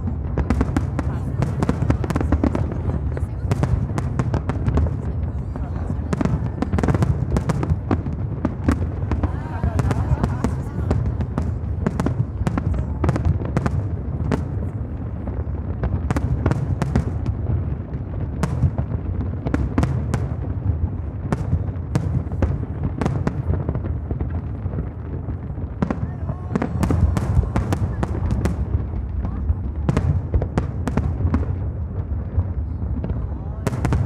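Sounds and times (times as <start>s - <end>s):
deep booming firework bursts: 0.0s - 34.0s
sharp crackling firework reports: 0.0s - 34.0s.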